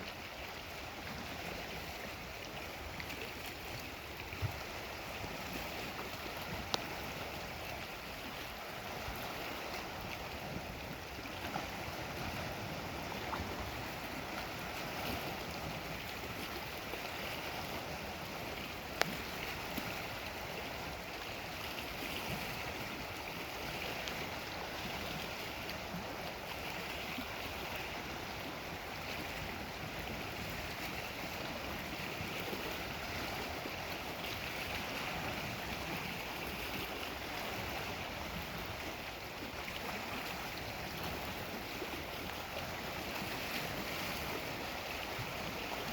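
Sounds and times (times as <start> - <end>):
waves washing against shore: 0.0 - 45.9.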